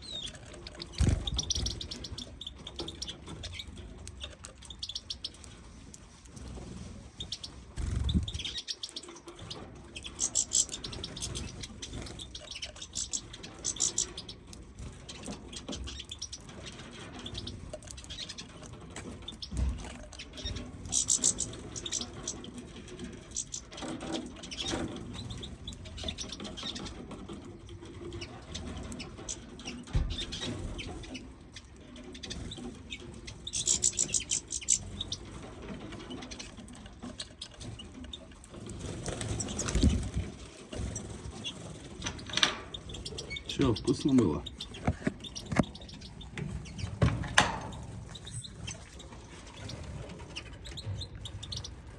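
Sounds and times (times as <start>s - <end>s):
finches chirping and twittering: 0.0s - 51.9s.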